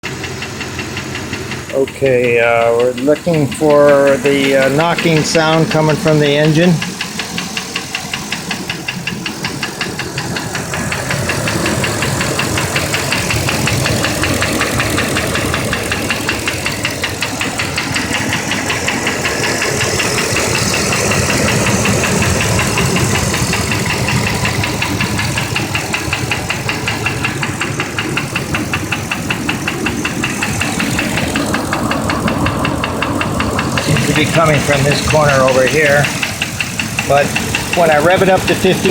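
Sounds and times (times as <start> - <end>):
engine running with fast knock: 0.0 - 38.9.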